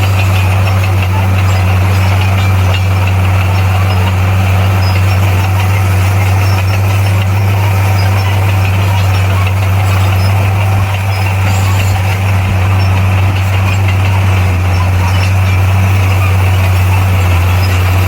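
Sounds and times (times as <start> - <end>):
diesel engine low drone: 0.0 - 18.0.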